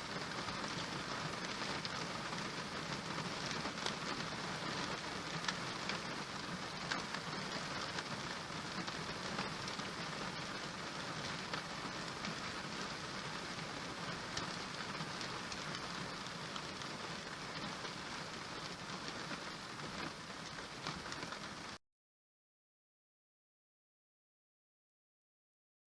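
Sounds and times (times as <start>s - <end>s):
steady rain falling: 0.0s - 21.8s.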